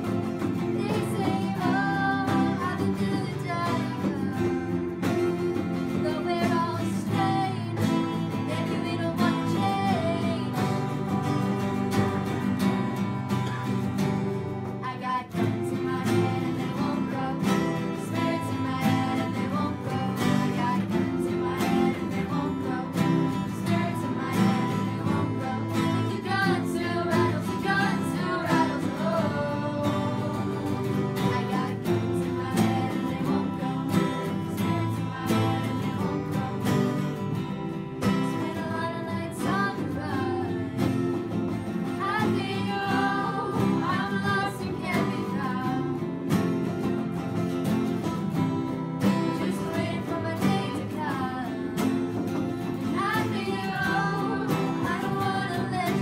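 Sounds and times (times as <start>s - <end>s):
singing voices: 0.0s - 14.0s, 14.7s - 46.9s, 49.0s - 56.0s
strummed acoustic guitars: 0.0s - 56.0s.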